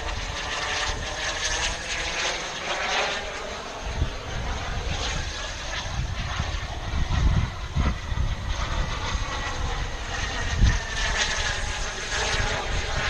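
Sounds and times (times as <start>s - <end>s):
jet engine whining: 0.0s - 13.0s
wind buffeting microphone: 0.0s - 13.0s.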